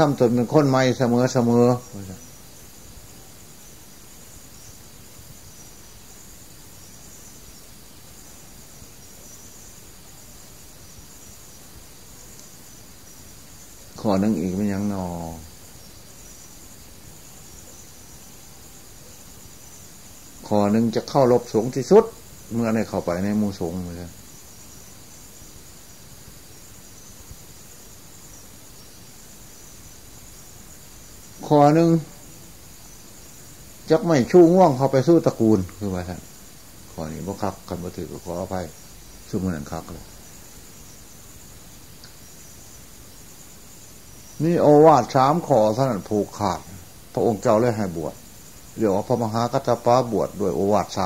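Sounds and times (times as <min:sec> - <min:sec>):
background hiss: 0:00.0 - 0:51.0
crickets chirring: 0:00.0 - 0:51.0.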